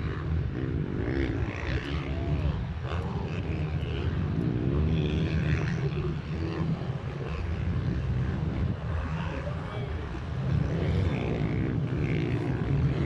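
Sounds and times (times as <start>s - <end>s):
minibike engines racing: 0.0s - 13.0s.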